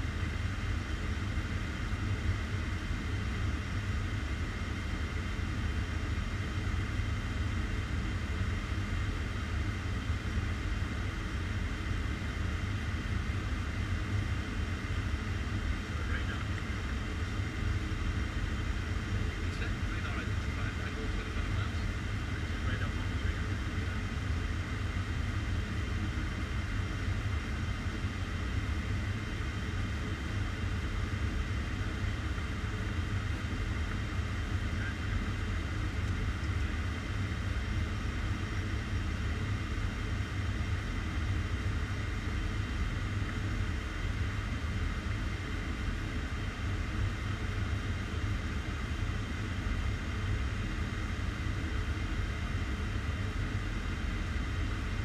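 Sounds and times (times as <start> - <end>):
aircraft cockpit rumble: 0.0 - 55.0.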